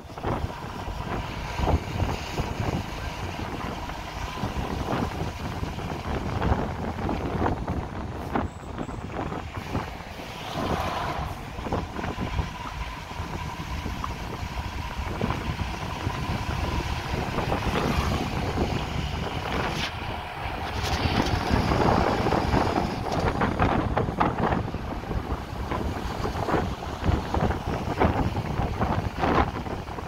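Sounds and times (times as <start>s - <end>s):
bus engine and road noise: 0.0s - 30.0s
wind buffeting microphone: 0.0s - 30.0s.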